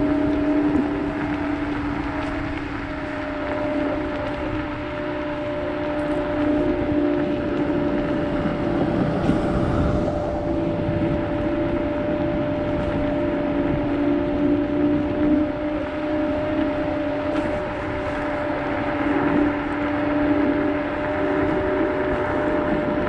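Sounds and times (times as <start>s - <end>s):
electric motor whine: 0.0s - 23.0s
wind on microphone: 0.0s - 23.0s.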